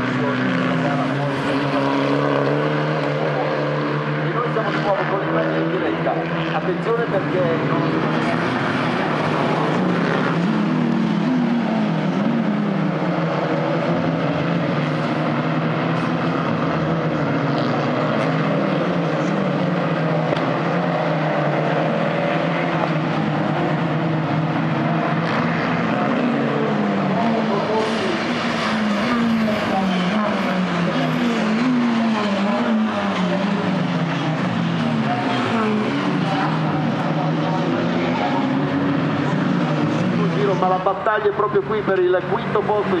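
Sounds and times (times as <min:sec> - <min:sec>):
race car engines running hard: 0:00.0 - 0:43.0.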